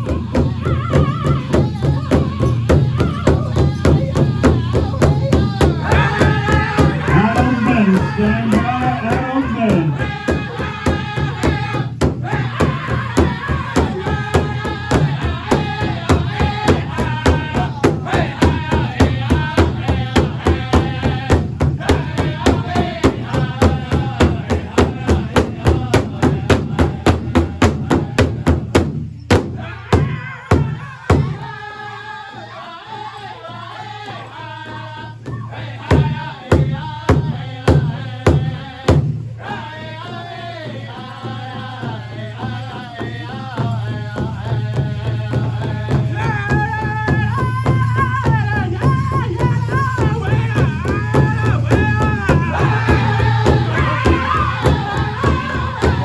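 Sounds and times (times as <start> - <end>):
large drum beating: 0.0 - 31.5, 35.0 - 56.0
drum group singing: 0.0 - 56.0.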